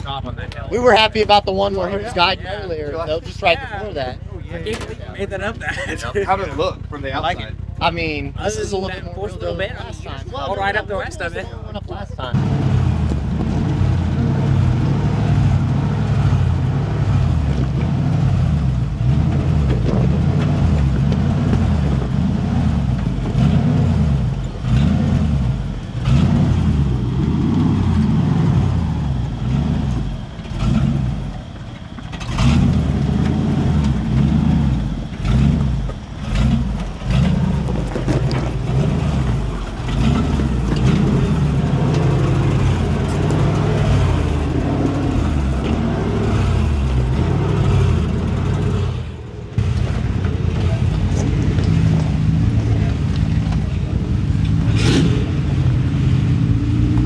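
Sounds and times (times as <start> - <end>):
off-road engine rumbling under load: 0.0 - 57.0.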